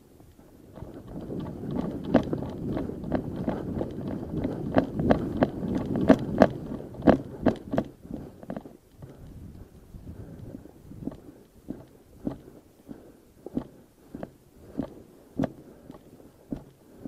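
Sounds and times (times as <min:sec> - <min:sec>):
rustling vegetation: 0:00.0 - 0:17.0.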